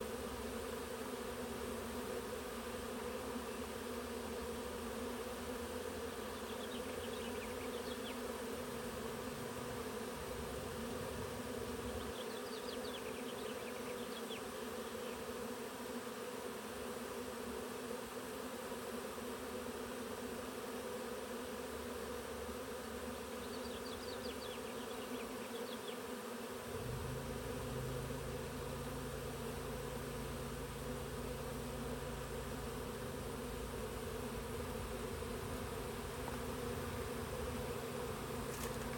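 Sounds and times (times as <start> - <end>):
bee swarm humming: 0.0 - 38.9.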